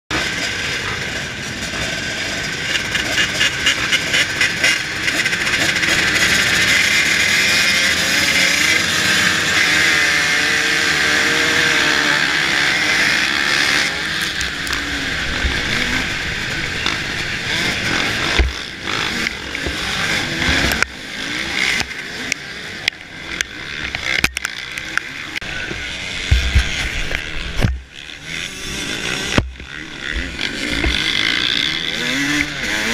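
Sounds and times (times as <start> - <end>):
engines at full throttle: 0.1 - 32.9
motocross bikes revving: 0.1 - 32.9.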